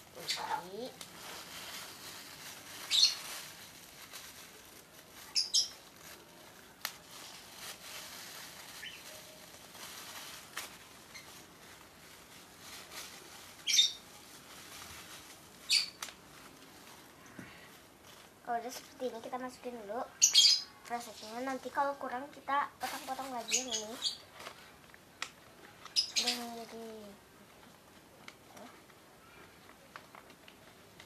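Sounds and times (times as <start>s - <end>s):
plastic bag crinkling: 0.1s - 19.9s, 20.8s - 27.2s.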